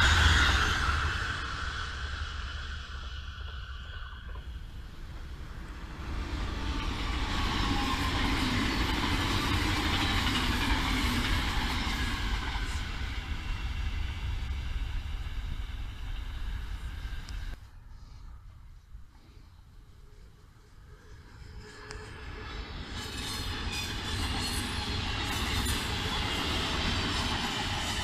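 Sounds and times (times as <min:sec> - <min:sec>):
electric train passing: 0:00.0 - 0:17.9, 0:20.0 - 0:28.0.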